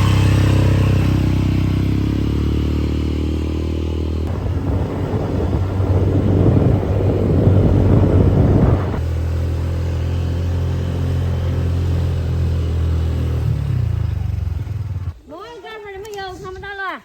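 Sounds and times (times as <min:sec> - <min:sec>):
vehicle engine rumbling: 0:00.0 - 0:15.2.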